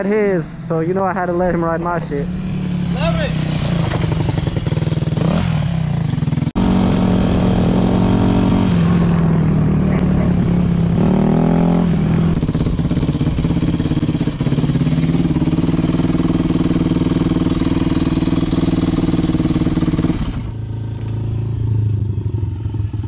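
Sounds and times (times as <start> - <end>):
dirt bike engine: 0.0 - 23.0.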